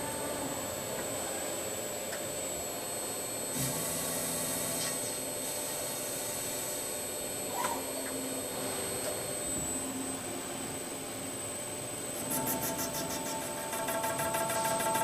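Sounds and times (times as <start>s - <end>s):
high constant whine: 0.0s - 15.0s
industrial machinery noise: 0.0s - 15.0s.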